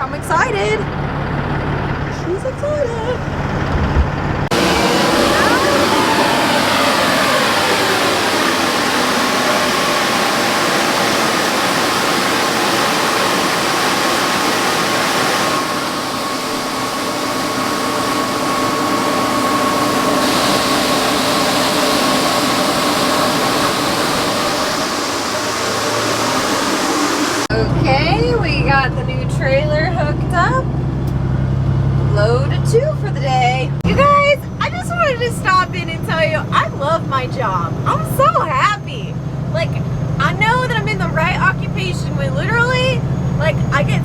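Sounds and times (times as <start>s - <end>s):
truck engine drone: 0.0s - 44.0s.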